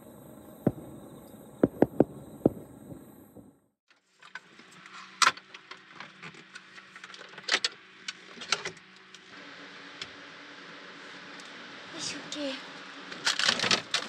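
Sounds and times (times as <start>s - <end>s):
faint hum: 0.0s - 3.8s, 6.0s - 14.0s.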